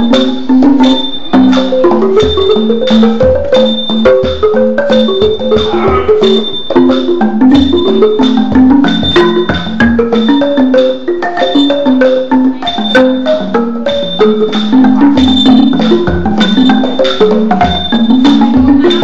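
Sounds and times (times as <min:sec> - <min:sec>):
bass xylophone notes: 0:00.0 - 0:19.0.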